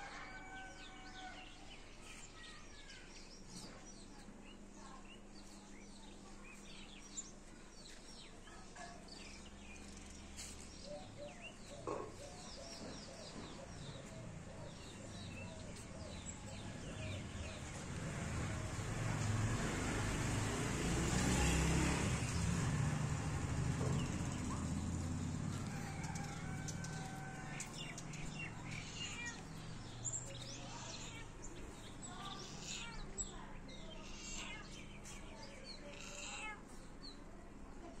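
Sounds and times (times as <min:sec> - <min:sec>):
small birds chirping: 0:00.0 - 0:20.5, 0:21.1 - 0:38.0.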